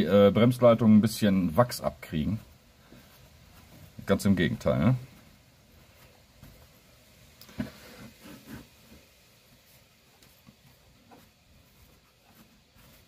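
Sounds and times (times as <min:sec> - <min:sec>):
handling rubs: 0:00.1 - 0:13.0.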